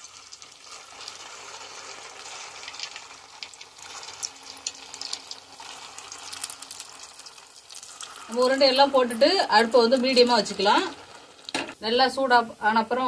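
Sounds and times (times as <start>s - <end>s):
dough deep-frying in oil: 0.0s - 13.0s.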